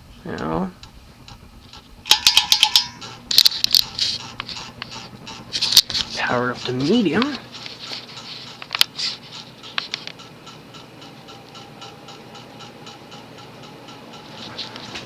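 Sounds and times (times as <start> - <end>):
ceiling fan motor pulsing buzz: 0.0 - 15.0
ceiling fan sharp clicks: 0.0 - 15.0.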